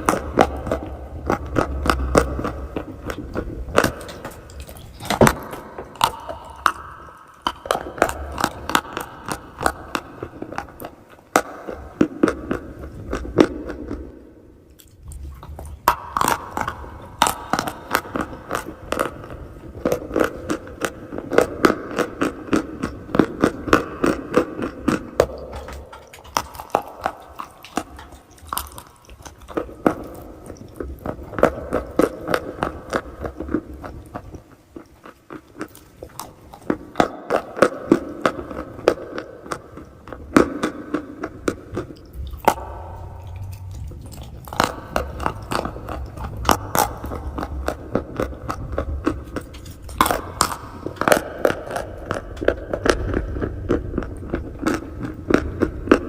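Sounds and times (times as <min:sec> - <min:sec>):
chewing crunchy chalk: 0:00.0 - 0:56.0.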